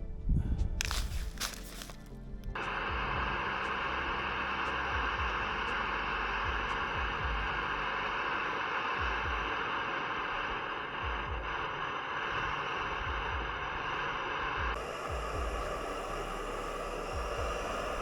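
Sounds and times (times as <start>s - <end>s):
gas stove burner hissing: 0.8s - 18.0s.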